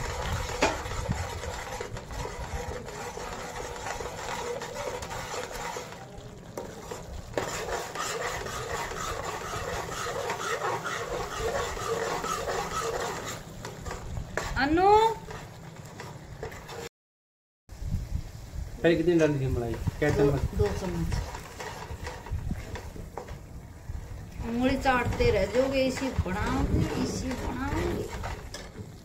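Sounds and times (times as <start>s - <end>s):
metal spoon scraping a pan: 0.0s - 16.9s, 19.6s - 23.4s, 24.4s - 29.0s
paste cooking in oil: 0.0s - 16.9s, 18.2s - 29.0s.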